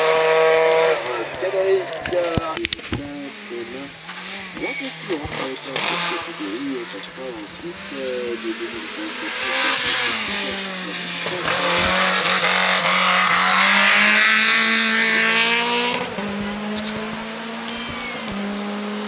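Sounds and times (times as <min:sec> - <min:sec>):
race car passing at full throttle: 0:00.0 - 0:19.0.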